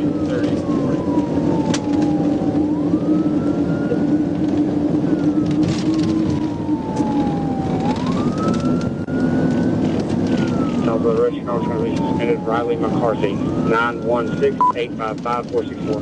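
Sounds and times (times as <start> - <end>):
engine and road noise: 0.0 - 16.0
police siren wailing: 0.0 - 16.0.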